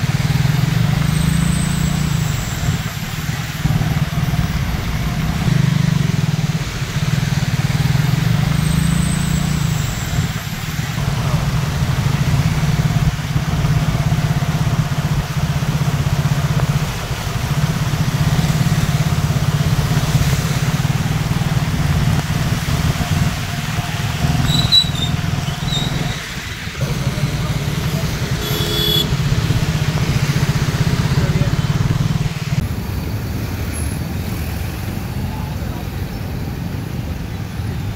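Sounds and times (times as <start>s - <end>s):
motorcycle engine running: 0.0s - 33.2s
rain and tyre spray: 0.0s - 37.9s.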